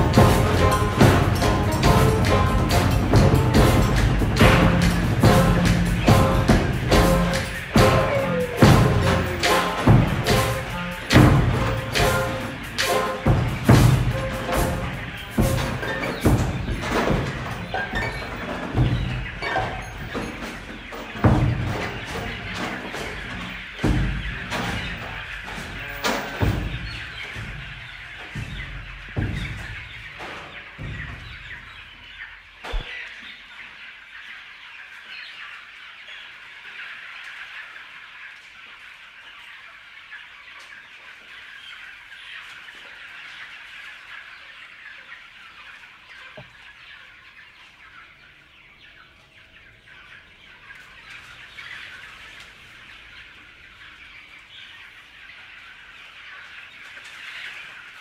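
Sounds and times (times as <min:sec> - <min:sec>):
chicks cheeping: 0:00.0 - 0:58.0.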